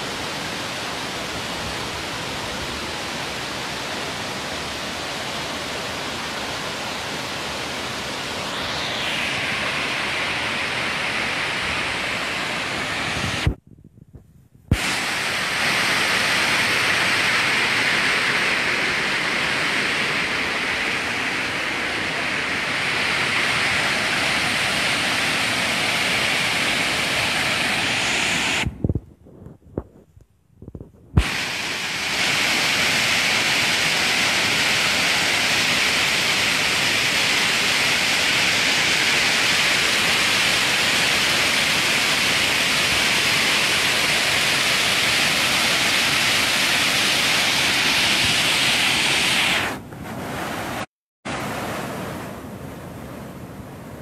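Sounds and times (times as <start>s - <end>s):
waterfall roaring: 0.0s - 13.5s, 14.7s - 28.7s, 31.2s - 49.8s.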